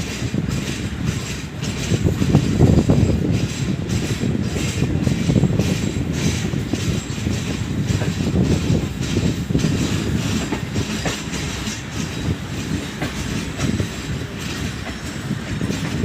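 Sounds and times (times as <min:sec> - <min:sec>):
train rumbling on rails: 0:00.0 - 0:16.0
wheel clacks and knocks: 0:00.0 - 0:16.0.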